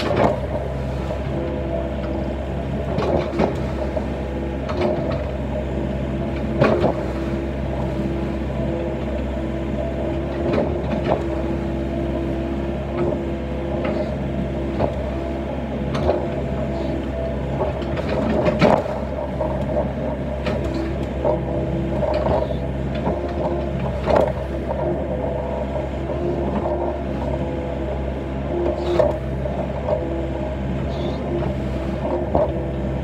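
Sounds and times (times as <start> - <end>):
excavator diesel engine running: 0.0 - 33.0
hydraulic whine: 0.0 - 33.0.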